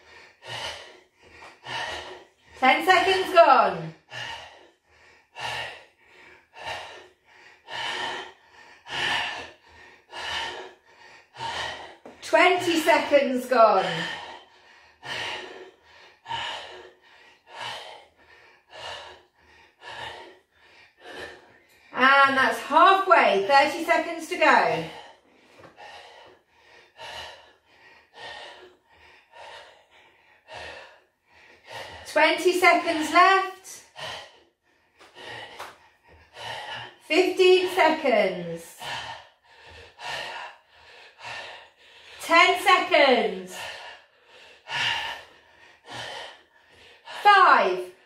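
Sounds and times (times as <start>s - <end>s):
man breathing hard: 0.0s - 2.6s, 3.5s - 12.2s, 13.8s - 22.0s, 24.8s - 32.1s, 33.0s - 48.0s.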